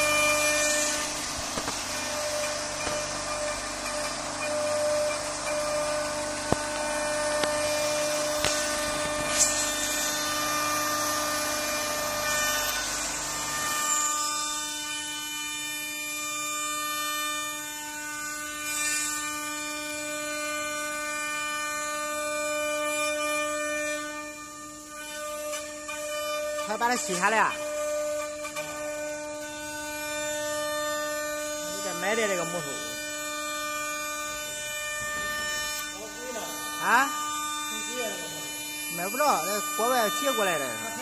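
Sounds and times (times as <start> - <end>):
rough wood cutting noise: 0.0 - 41.0
router spindle whine: 0.0 - 41.0.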